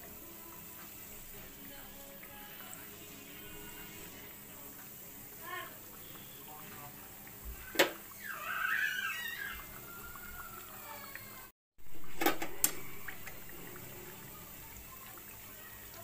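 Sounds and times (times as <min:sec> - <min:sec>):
deep-frying sizzle in hot oil: 0:00.0 - 0:16.0.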